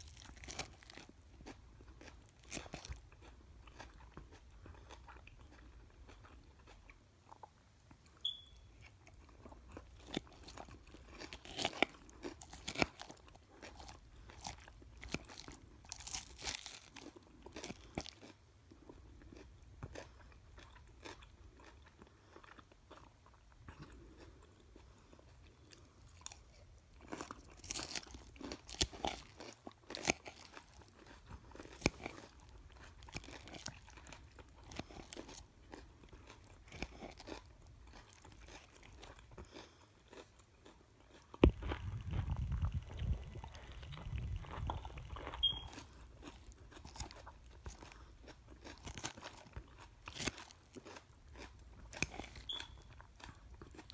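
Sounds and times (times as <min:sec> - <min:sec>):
chewing crunchy salad: 0:00.0 - 0:53.9.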